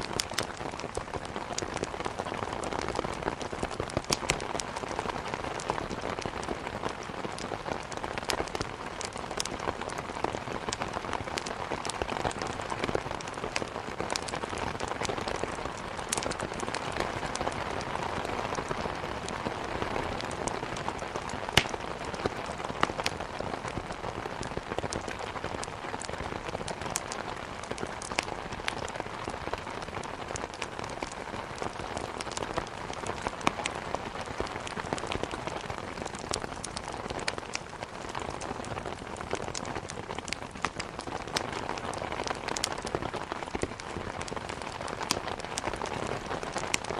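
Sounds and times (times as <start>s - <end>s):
firewood crackling and popping: 0.0s - 46.9s
rain hitting a window: 0.0s - 46.9s.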